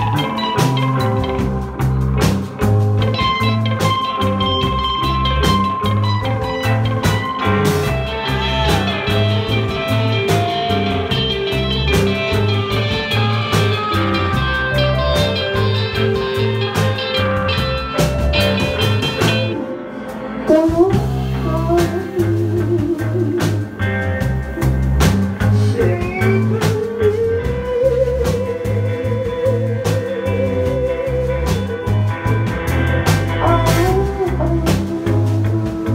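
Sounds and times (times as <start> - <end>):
bass guitar: 0.0 - 35.9
drum kit: 0.0 - 35.9
electric guitar: 0.0 - 35.9.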